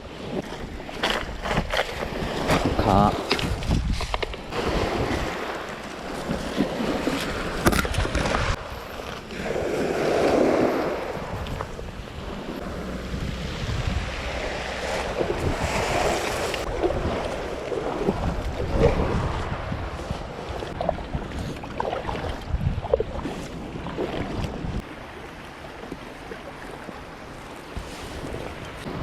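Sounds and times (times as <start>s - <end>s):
wind rumble on microphone: 0.0s - 25.0s, 27.3s - 29.0s
sea water lapping: 0.0s - 29.0s.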